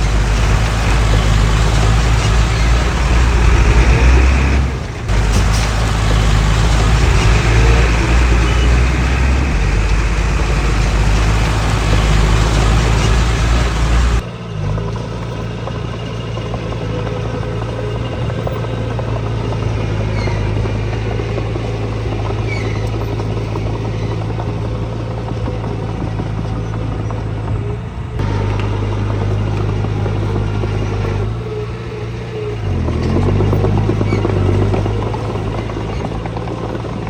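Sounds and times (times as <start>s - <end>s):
earthmoving machinery engines: 0.0s - 37.0s.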